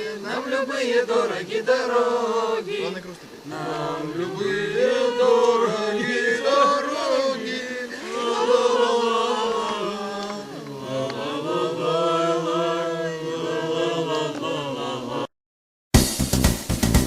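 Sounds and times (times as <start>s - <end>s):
group of voices chanting: 0.0s - 15.3s.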